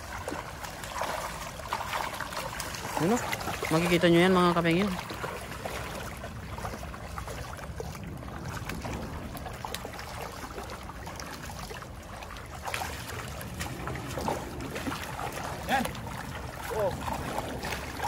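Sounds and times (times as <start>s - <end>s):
small splashes and clicks: 0.0s - 18.0s
stream running over stones: 0.0s - 18.0s.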